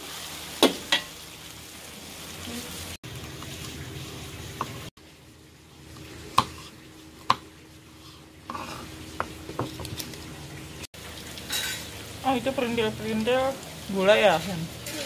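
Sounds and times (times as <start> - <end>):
wok sizzling: 0.0 - 15.0.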